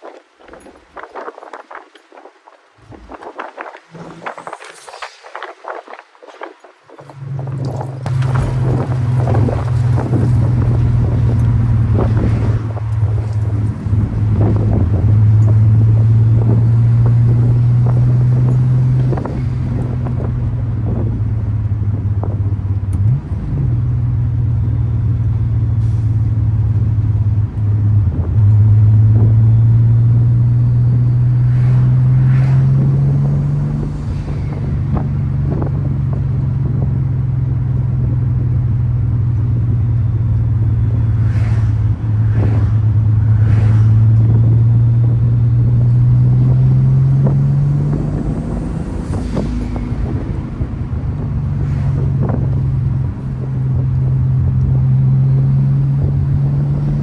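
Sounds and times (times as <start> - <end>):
car engine and exhaust droning: 2.8 - 57.0.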